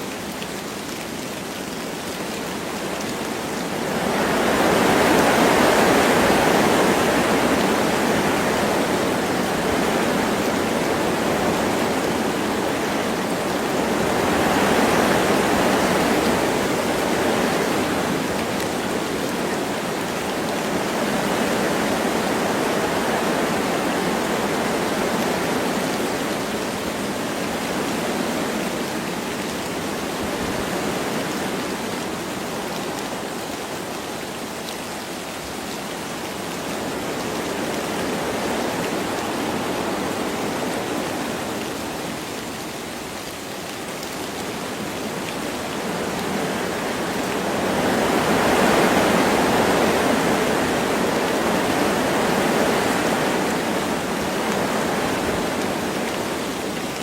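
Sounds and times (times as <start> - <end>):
light rain hiss: 0.0 - 57.0
wind through forest trees: 0.0 - 57.0.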